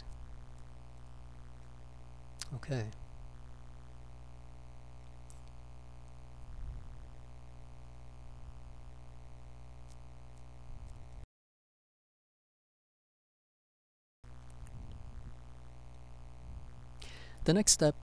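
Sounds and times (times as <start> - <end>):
low electrical hum: 0.0 - 11.3, 14.3 - 18.0.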